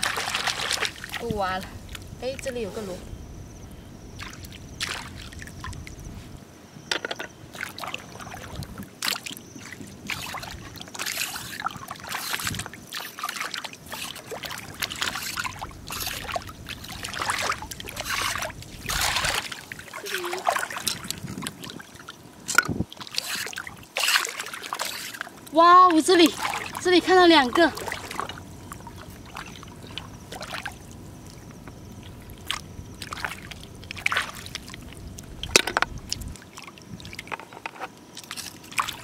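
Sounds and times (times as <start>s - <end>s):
splashing in shallow water: 0.0s - 3.0s, 4.0s - 6.3s, 7.5s - 39.0s.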